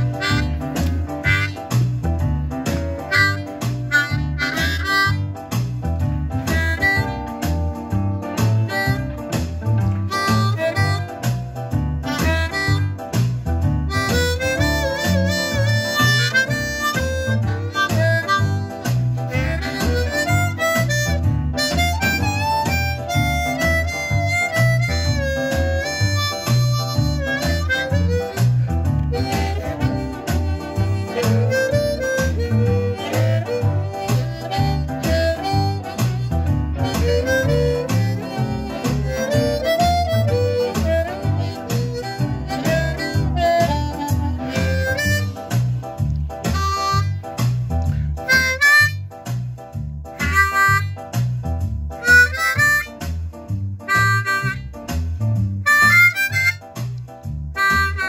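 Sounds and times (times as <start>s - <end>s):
blues backing track with guitar: 0.0s - 58.0s
blues harmonica melody: 0.0s - 58.0s.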